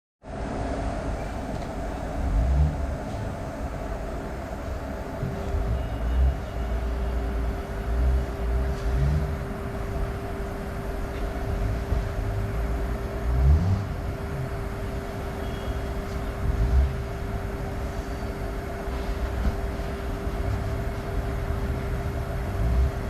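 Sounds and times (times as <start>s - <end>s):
electric locomotive whirring: 0.3s - 23.0s
train rumble: 0.3s - 23.0s.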